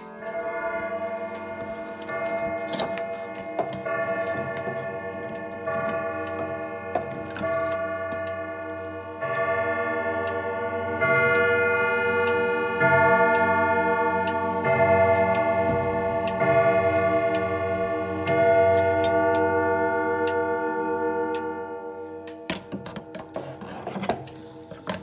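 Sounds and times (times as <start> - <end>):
clock ticking: 0.0 - 20.6
clock chime rods ringing: 0.0 - 25.0.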